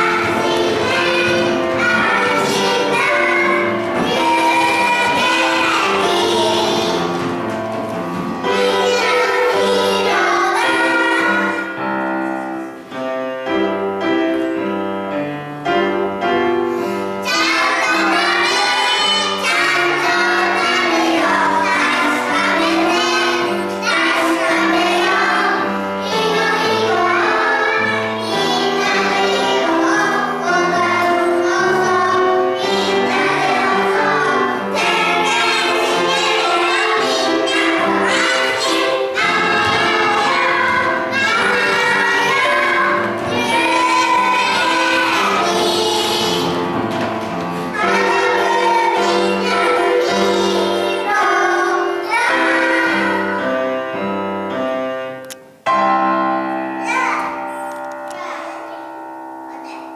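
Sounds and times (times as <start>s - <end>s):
upbeat backing music: 0.0s - 12.5s, 17.2s - 56.4s
children singing: 0.0s - 12.8s, 17.2s - 54.0s.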